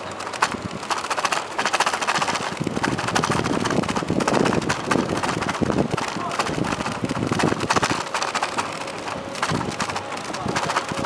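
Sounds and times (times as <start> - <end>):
bicycle rattling over boards: 0.0 - 11.0.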